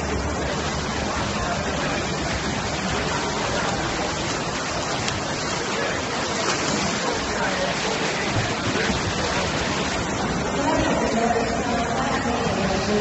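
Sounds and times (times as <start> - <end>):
swimmers splashing water: 0.0 - 13.0.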